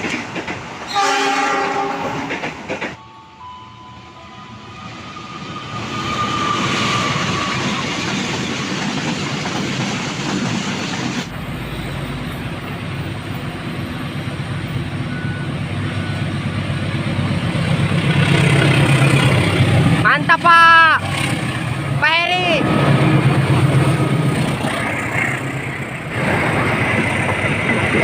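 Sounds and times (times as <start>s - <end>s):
train wheels rumbling on rails: 0.0s - 3.0s, 4.8s - 28.0s.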